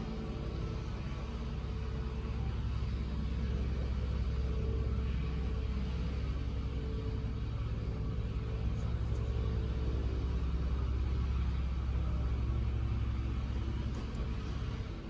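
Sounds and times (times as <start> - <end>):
low rumble with faint hum: 0.0 - 15.0.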